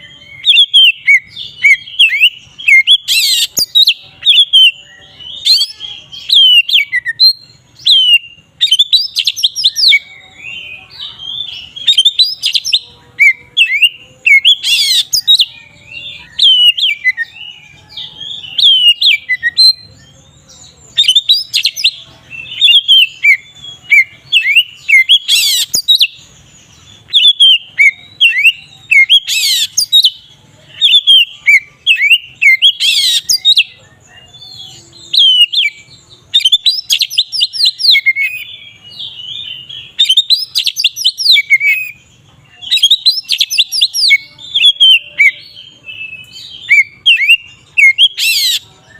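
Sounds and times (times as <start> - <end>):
songbird whistling song: 0.0 - 48.9.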